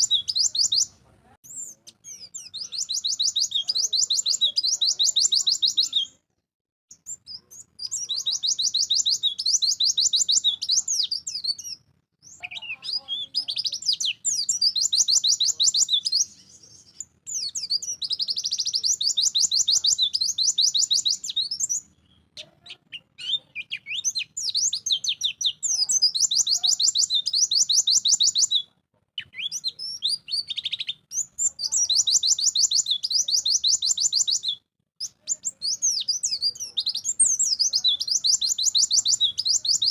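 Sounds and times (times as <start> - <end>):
bird twittering song: 0.0 - 6.2, 6.9 - 39.9.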